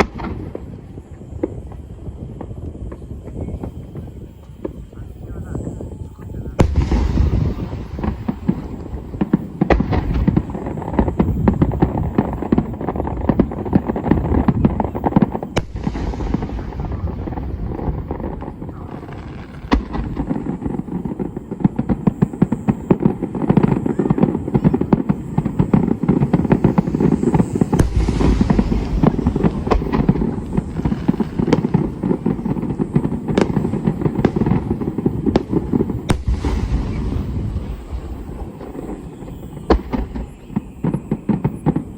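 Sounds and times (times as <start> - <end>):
fireworks bursting and crackling: 0.0 - 41.9.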